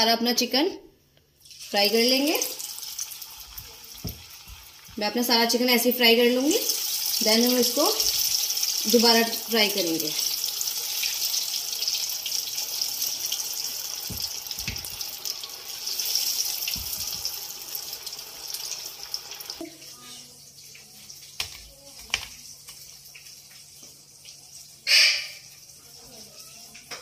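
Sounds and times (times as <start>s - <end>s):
chicken deep-frying in oil: 1.4s - 27.0s.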